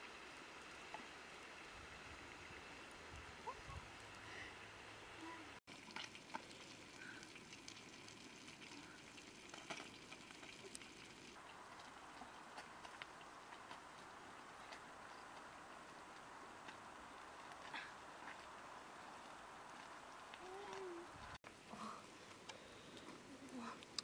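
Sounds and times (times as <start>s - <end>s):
wood fire hissing and crackling: 0.0s - 24.0s.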